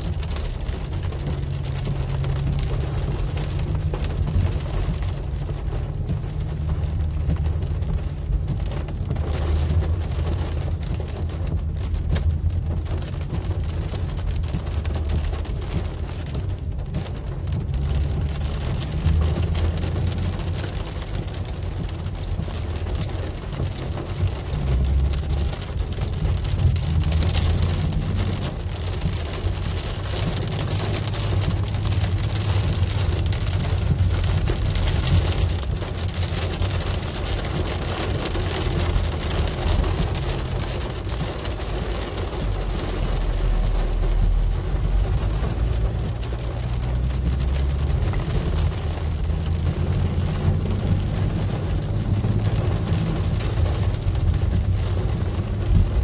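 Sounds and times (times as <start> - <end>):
car driving on wet road: 0.0 - 56.0
rain hitting car roof: 0.0 - 56.0.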